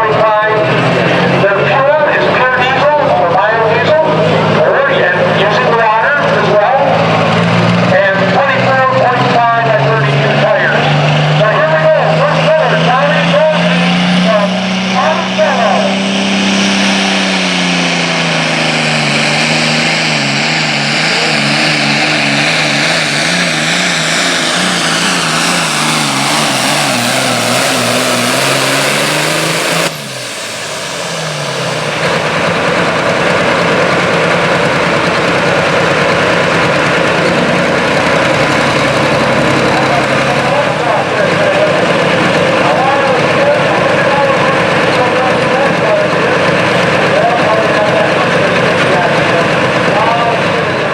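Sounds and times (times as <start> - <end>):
diesel tractor engine under load: 0.0 - 50.9.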